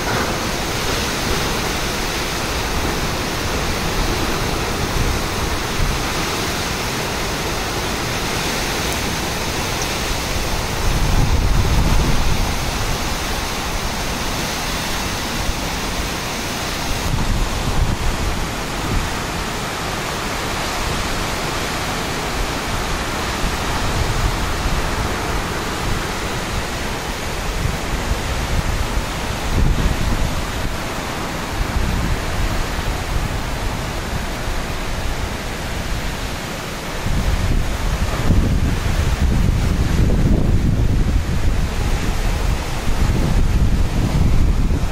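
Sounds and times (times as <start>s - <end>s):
heavy driving rain: 0.0s - 44.9s
strong wind gusts: 0.0s - 44.9s.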